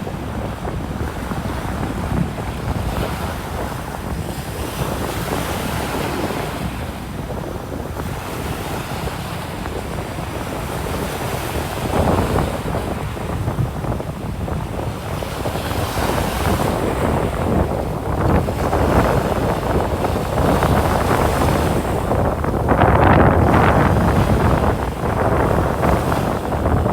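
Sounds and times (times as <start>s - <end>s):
ocean surf washing onto sand: 0.0s - 26.9s
waves breaking: 0.0s - 26.9s
wind rumbling on microphone: 0.0s - 26.9s.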